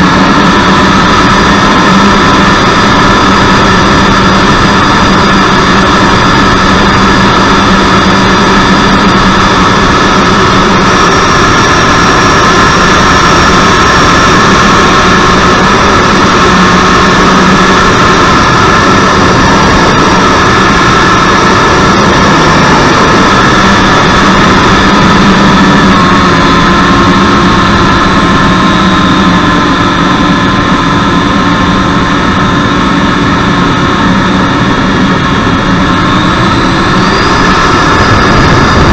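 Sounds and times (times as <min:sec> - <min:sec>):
electric ducted fan running: 0:00.0 - 0:38.9.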